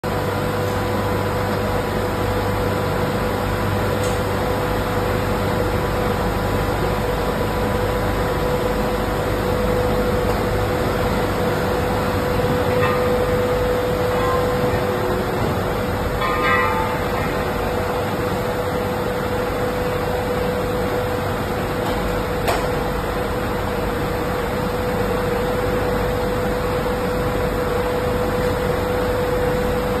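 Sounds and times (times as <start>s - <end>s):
constant hum: 0.0s - 30.0s.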